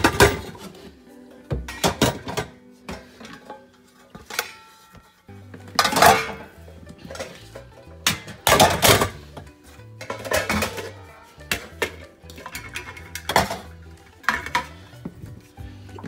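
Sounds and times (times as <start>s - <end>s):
pots and pans clanking: 0.0s - 0.8s, 1.5s - 4.6s, 5.6s - 15.1s
background music: 0.0s - 16.0s.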